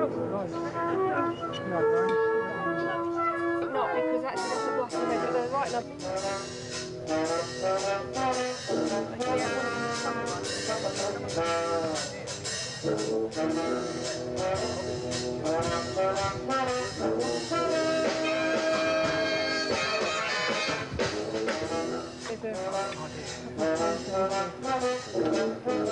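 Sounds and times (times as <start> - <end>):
brass band playing: 0.0 - 25.9.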